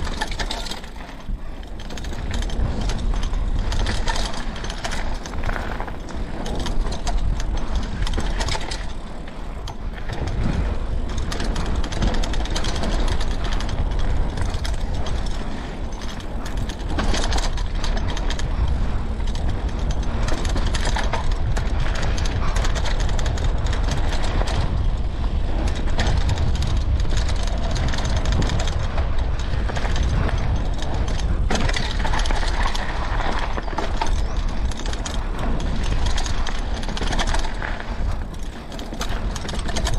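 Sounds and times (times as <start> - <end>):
bike chain and frame clattering: 0.0 - 39.9
tyres crunching over ground: 0.0 - 39.9
wind rumble on microphone: 0.0 - 39.9
freehub ratchet ticking: 1.7 - 39.9.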